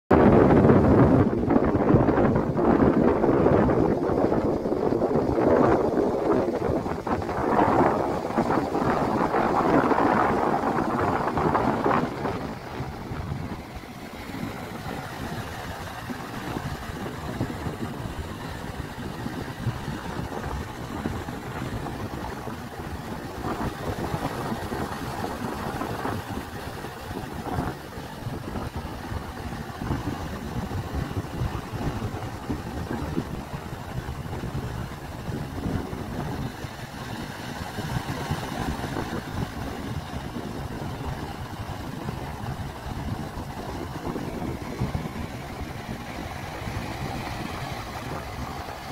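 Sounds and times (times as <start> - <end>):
wind on microphone: 0.1 - 48.9
sea waves breaking on beach: 0.9 - 48.9.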